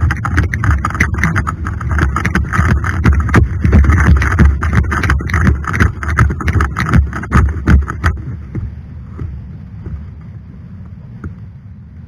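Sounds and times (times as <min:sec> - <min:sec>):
rattling gear: 0:00.0 - 0:10.0
running footfalls: 0:00.0 - 0:10.4
steady rustle: 0:00.0 - 0:12.0
wind rushing over microphone: 0:00.0 - 0:12.0.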